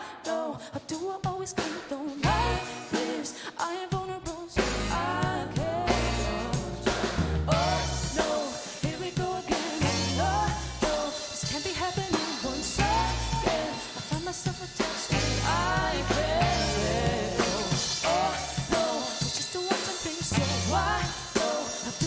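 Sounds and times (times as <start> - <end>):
drum kit: 0.0 - 22.0
woman singing: 0.0 - 22.0.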